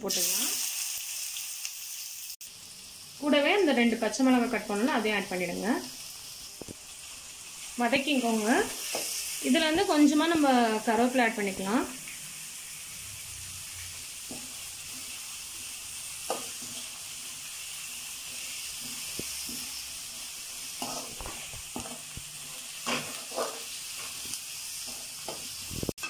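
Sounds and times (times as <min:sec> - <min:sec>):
onions sizzling in hot oil: 0:00.0 - 0:26.0.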